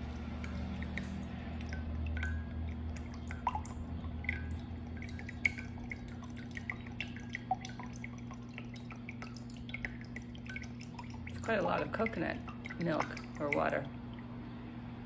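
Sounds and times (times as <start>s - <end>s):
low steady hum: 0.0s - 15.0s
water dripping into a jug: 0.0s - 15.0s.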